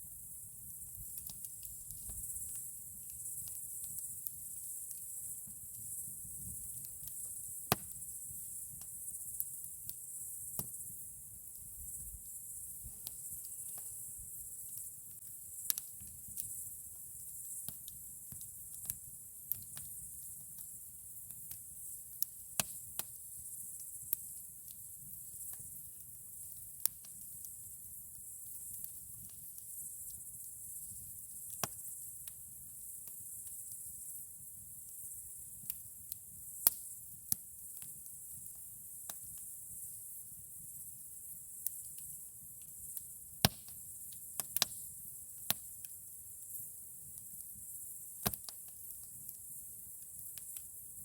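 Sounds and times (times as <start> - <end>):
campfire wood crackling and popping: 0.1 - 51.0.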